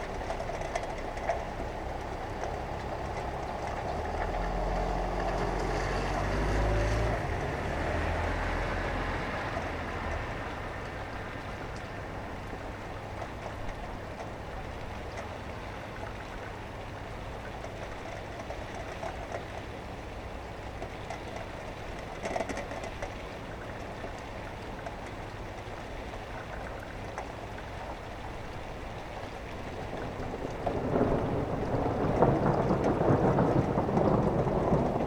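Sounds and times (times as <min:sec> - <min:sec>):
steady rain: 0:00.0 - 0:35.0
vehicles on a wet road: 0:00.0 - 0:35.0.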